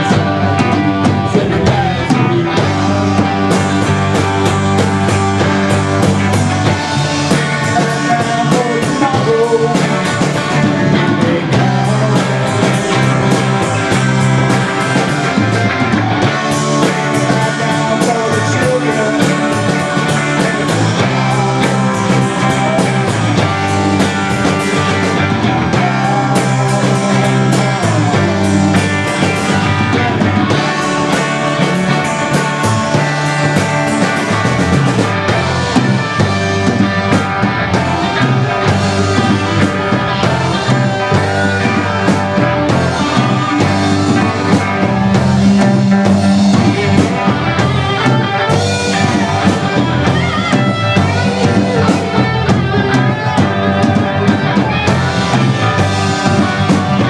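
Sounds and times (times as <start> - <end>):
bass guitar line: 0.0 - 57.0
drum hits: 0.0 - 57.0
live rock band playing: 0.0 - 57.0.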